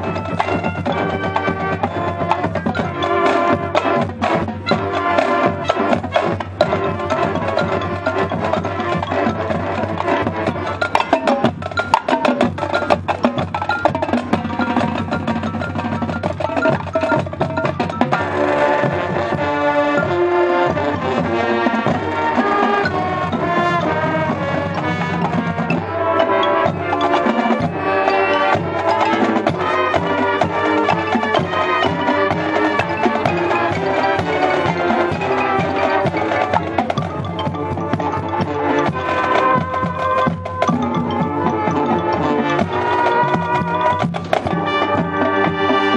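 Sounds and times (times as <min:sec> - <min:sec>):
horns playing chordal melody: 0:00.0 - 0:13.2, 0:15.8 - 0:45.9
drumline playing fast: 0:00.0 - 0:45.9.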